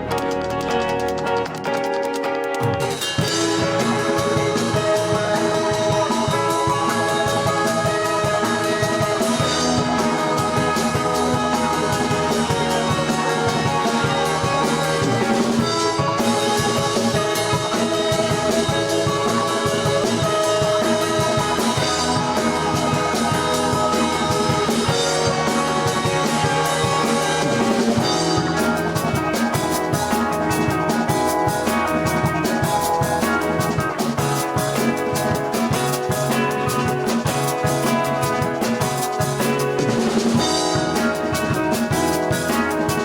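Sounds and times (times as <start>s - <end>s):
fast drum strokes: 0.0s - 43.0s
rock band playing live: 0.0s - 43.0s.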